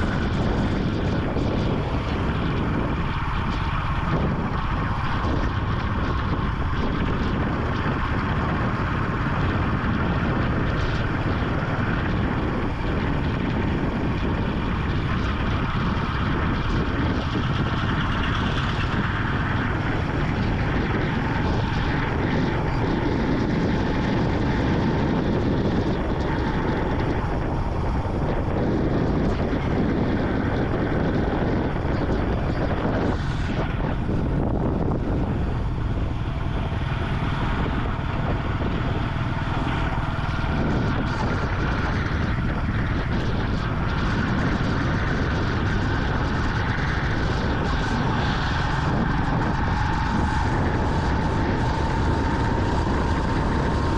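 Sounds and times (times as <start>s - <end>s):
motorcycle engine running: 0.0s - 53.9s
road noise: 0.0s - 53.9s
wind rush: 0.0s - 53.9s.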